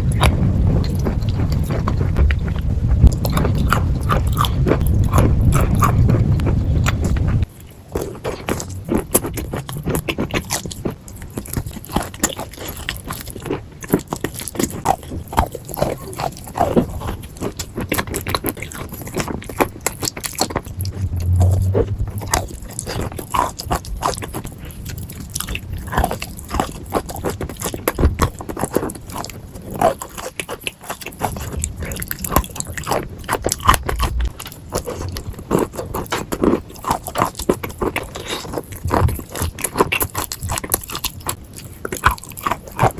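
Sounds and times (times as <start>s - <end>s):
crunchy food chewing: 0.0s - 42.9s.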